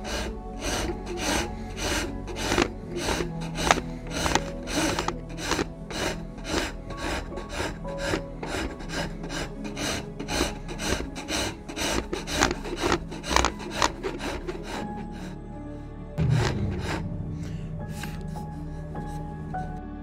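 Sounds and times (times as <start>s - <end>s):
file rasping wood: 0.0s - 15.3s, 16.2s - 17.0s.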